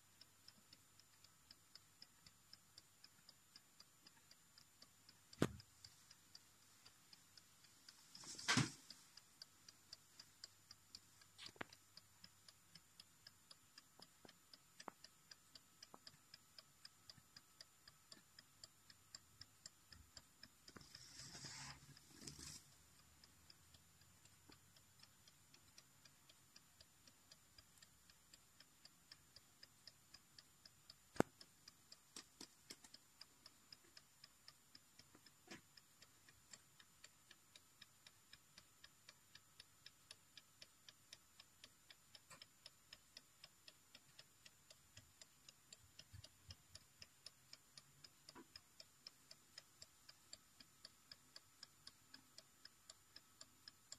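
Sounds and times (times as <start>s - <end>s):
wall clock ticking: 0.0s - 53.9s.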